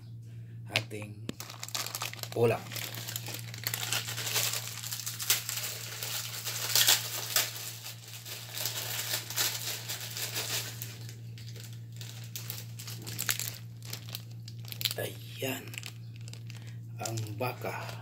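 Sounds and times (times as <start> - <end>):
steady low hum: 0.0 - 18.0
crinkling and rustling: 1.3 - 18.0.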